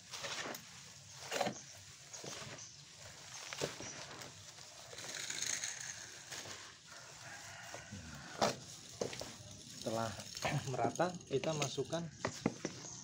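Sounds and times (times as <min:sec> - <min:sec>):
dry leaves rustling and crackling: 0:00.0 - 0:12.2.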